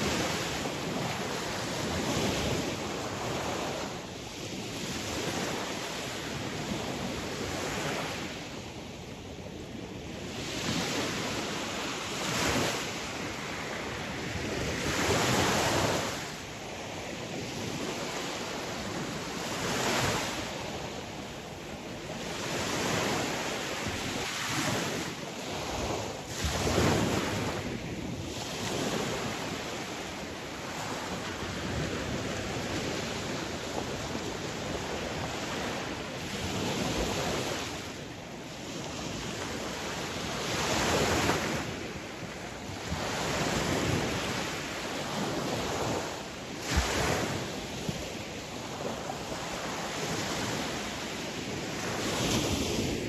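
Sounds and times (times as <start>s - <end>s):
sea waves breaking on shore: 0.0s - 53.0s
wind on microphone: 0.0s - 53.0s.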